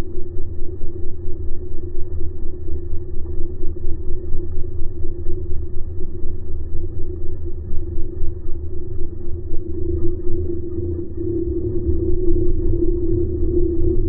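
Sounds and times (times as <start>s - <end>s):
outboard motor heard underwater: 0.0s - 14.0s.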